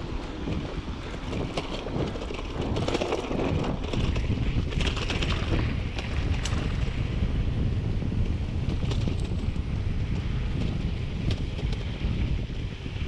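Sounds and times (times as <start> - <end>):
bike clicks and rattles: 0.0 - 13.0
bike tyres rolling on dirt: 0.0 - 13.0
wind buffeting microphone: 0.0 - 13.0.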